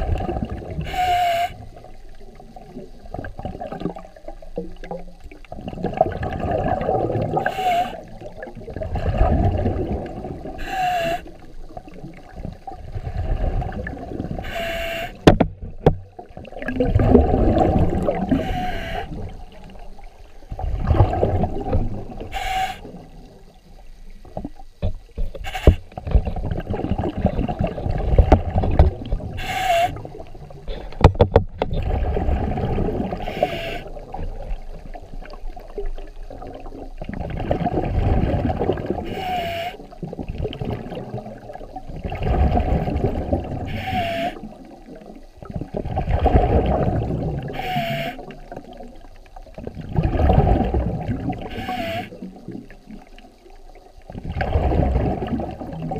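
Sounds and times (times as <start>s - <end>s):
water rushing and sloshing: 0.0s - 55.9s.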